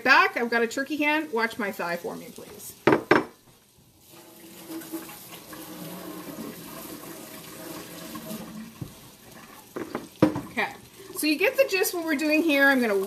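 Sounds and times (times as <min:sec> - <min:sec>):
water running from tap: 0:00.0 - 0:13.0.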